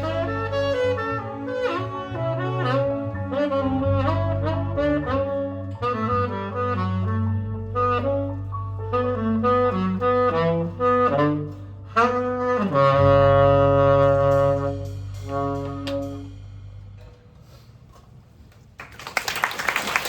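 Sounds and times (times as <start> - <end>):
jazz big band playing: 0.0 - 17.7.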